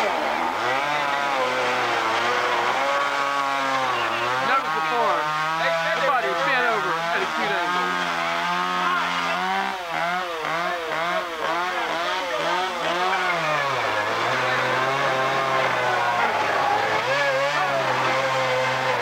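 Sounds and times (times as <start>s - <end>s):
chainsaw engine revving and idling: 0.0s - 19.0s.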